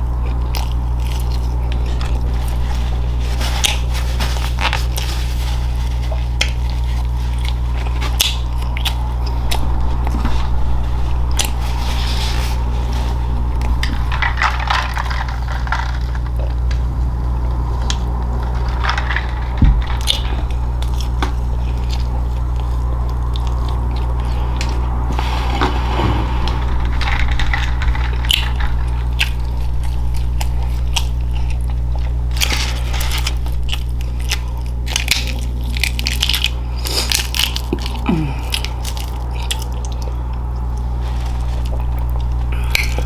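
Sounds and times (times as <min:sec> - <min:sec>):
chewing crunchy food: 0:00.0 - 0:10.5, 0:11.3 - 0:43.0
steady low hum: 0:00.0 - 0:43.0.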